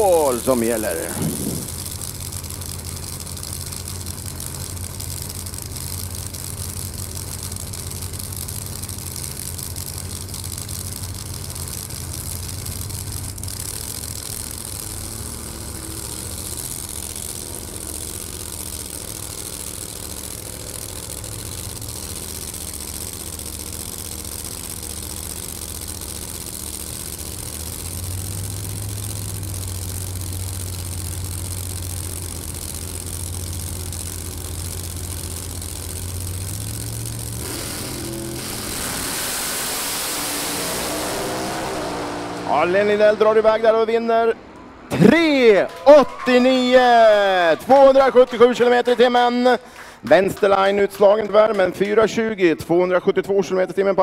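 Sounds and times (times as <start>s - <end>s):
drag racing car engines idling: 0.0s - 54.0s.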